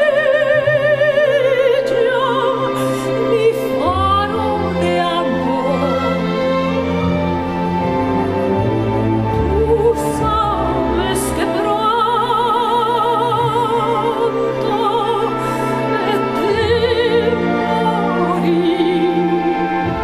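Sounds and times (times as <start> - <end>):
operatic soprano singing: 0.0 - 20.0
orchestra sustained strings: 0.0 - 20.0.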